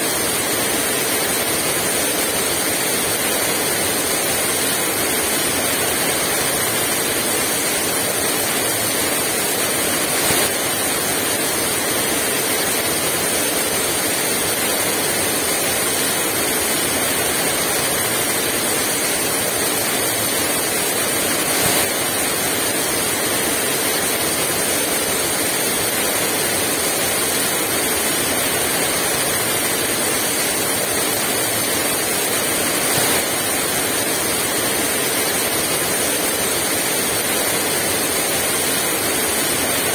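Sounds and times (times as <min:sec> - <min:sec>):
heavy rain pouring: 0:00.1 - 0:39.9.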